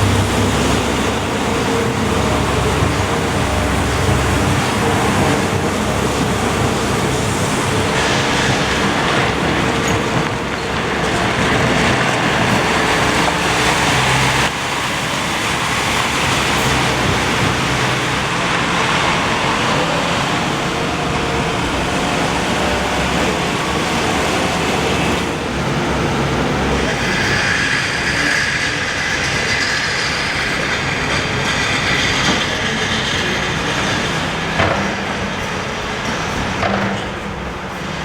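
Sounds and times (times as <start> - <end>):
traffic rushing noise: 0.0 - 38.0.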